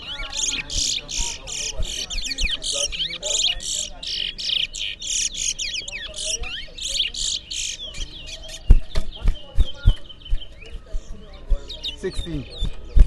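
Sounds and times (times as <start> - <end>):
finches singing: 0.0 - 13.0.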